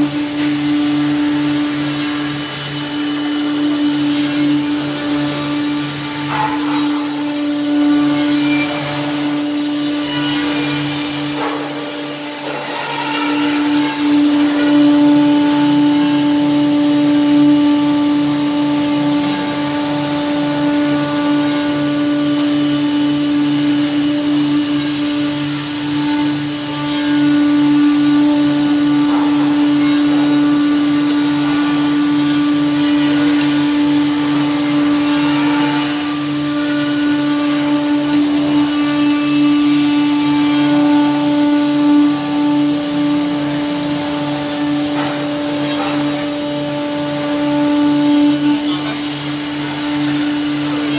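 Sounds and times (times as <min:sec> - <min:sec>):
electric saw motor whine: 0:00.0 - 0:50.9.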